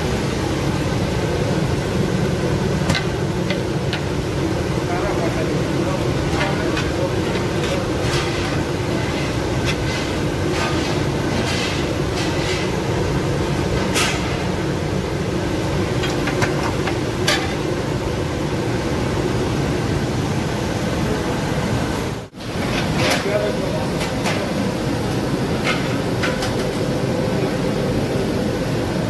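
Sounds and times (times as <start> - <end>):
kitchen exhaust fans droning: 0.0 - 29.0.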